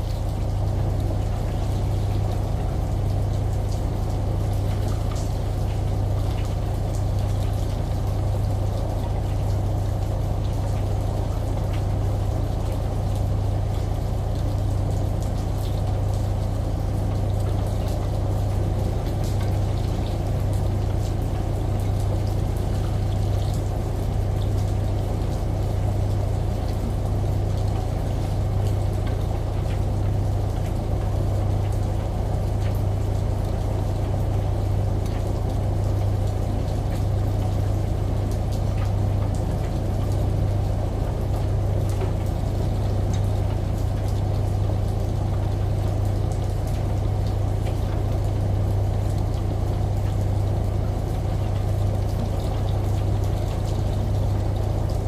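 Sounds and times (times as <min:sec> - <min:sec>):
rain: 0:00.0 - 0:55.0
shower water: 0:00.0 - 0:55.0
washing machine humming: 0:00.0 - 0:55.0.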